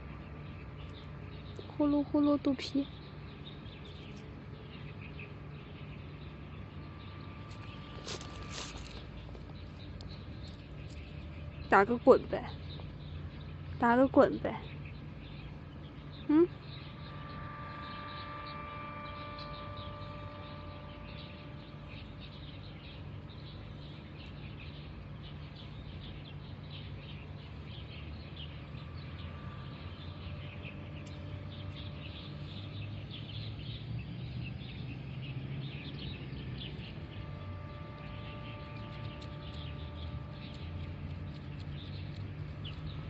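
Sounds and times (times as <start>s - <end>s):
low background hum: 0.0s - 43.0s
small birds chirping: 0.0s - 43.0s.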